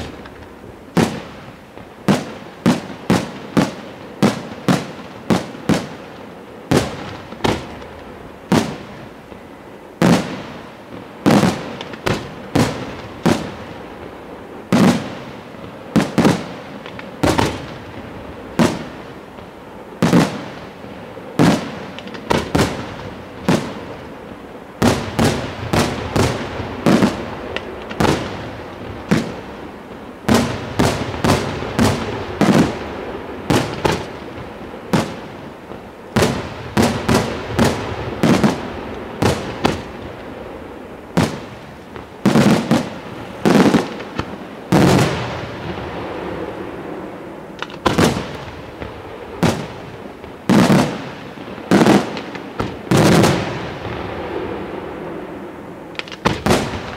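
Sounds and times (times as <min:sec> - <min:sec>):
fireworks bursting with sharp bangs: 0:00.0 - 0:56.9.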